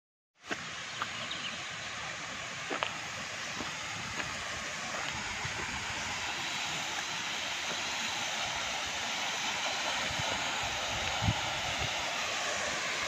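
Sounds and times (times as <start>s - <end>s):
steady rushing hiss: 0.4s - 13.0s.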